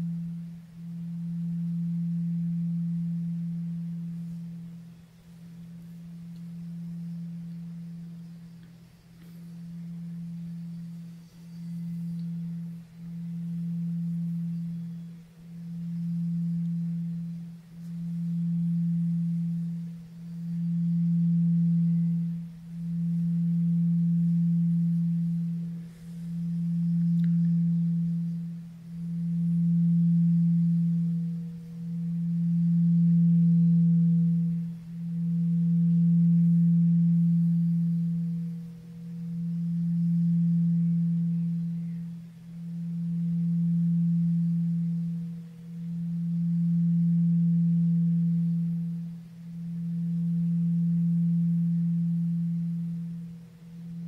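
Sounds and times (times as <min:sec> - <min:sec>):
singing bowl low tone: 0:00.0 - 0:54.0.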